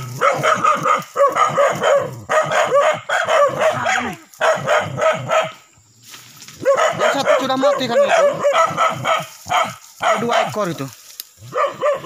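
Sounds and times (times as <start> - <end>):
dog barking: 0.0 - 5.7, 6.6 - 10.7, 11.4 - 12.0.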